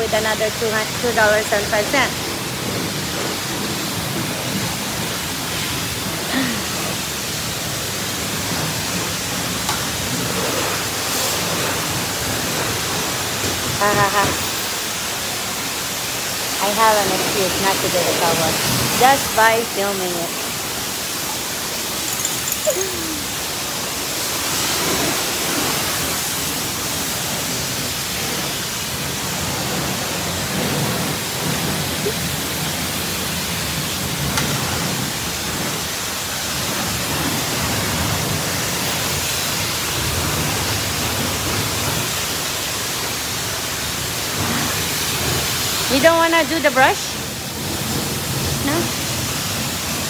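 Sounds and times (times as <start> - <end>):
high-pressure water spray hissing: 0.0 - 50.0.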